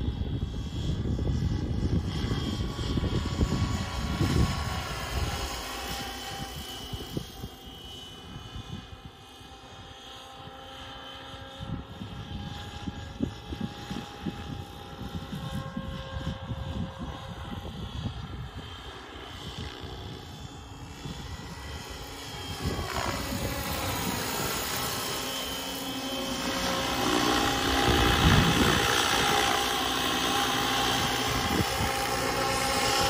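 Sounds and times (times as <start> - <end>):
model helicopter rotor fluttering: 0.0 - 33.0
multi-tone electronic whine: 0.0 - 33.0.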